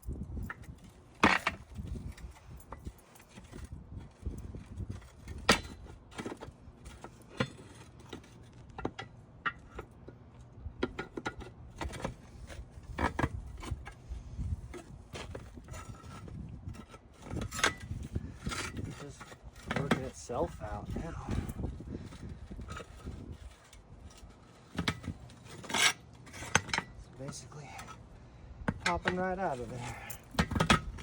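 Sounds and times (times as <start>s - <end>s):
metal clicks and scrapes: 0.4s - 31.0s.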